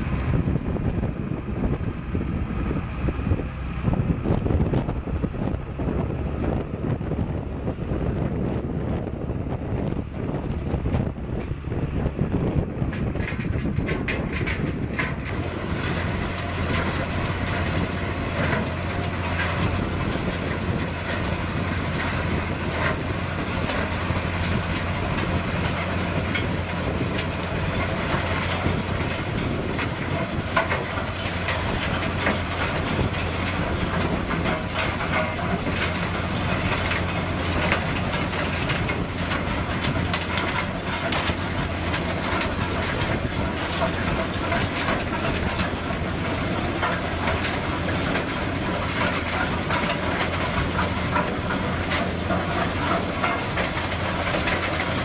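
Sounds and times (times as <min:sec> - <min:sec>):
low engine hum: 0:00.0 - 0:55.0
machinery rattling and clatter: 0:00.0 - 0:55.0.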